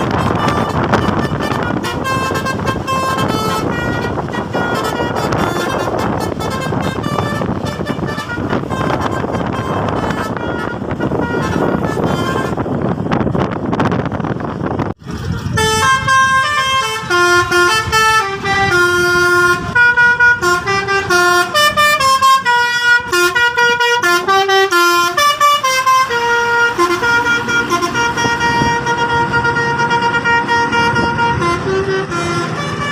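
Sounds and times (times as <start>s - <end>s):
multi-tone bus horn tune: 0.0s - 14.1s, 15.0s - 32.9s.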